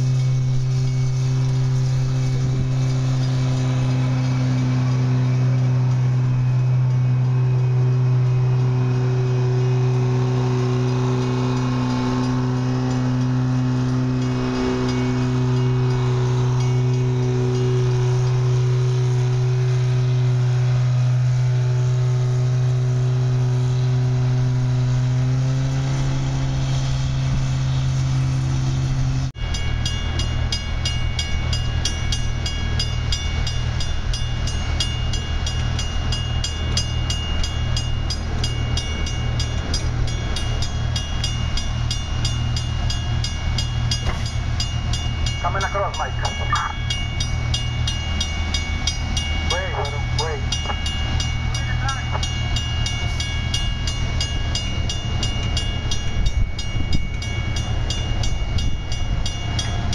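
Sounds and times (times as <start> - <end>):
grade crossing warning bell: 0.0 - 26.4, 29.4 - 59.9
diesel train engine running: 0.0 - 59.9
track machines idling: 0.0 - 59.9.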